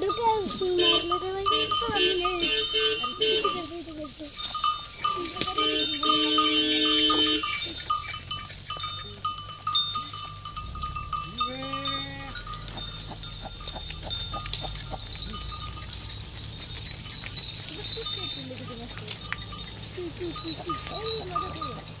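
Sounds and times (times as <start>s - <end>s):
animal bells clinking: 0.0s - 22.0s
livestock calls: 0.0s - 22.0s.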